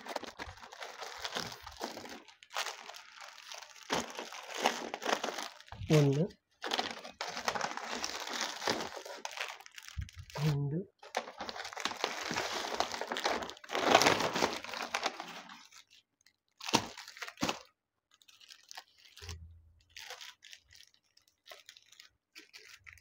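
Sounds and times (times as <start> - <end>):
paper and plastic packaging crinkling: 0.0 - 23.0
sharp plastic crackles: 0.0 - 23.0.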